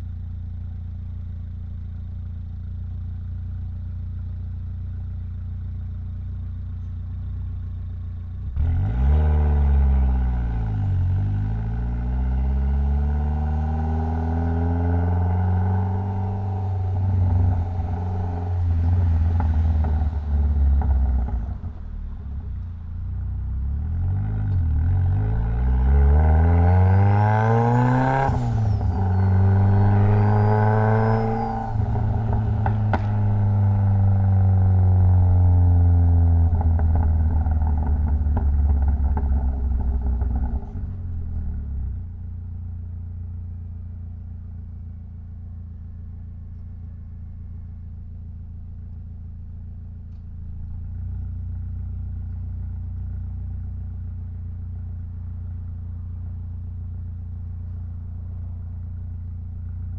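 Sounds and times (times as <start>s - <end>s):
car engine accelerating: 3.6s - 59.9s.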